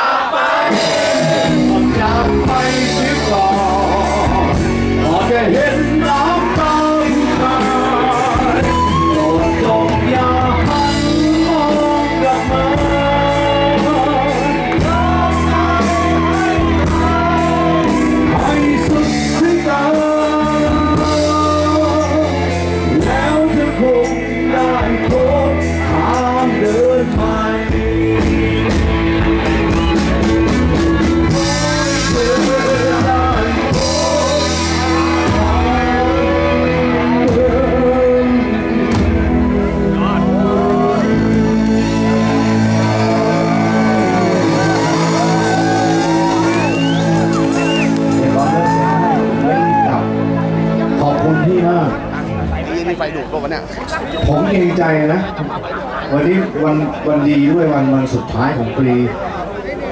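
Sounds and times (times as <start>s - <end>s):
man singing lead vocals: 0.0s - 50.3s
live rock band playing: 0.0s - 59.9s.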